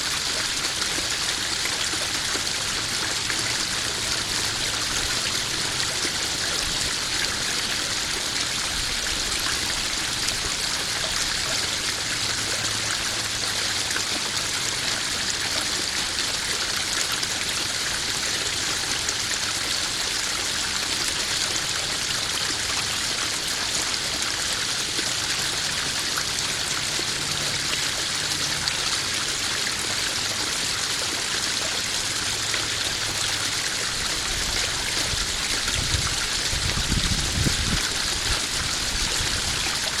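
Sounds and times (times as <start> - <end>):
waterfall splashing into pond: 0.0 - 40.0.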